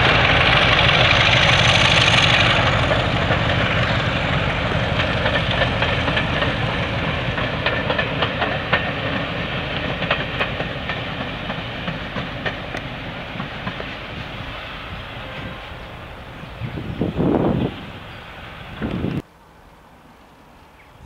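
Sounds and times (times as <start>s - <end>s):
train wheels clicking over rail joints: 0.0s - 19.2s
low train rumble: 0.0s - 21.0s.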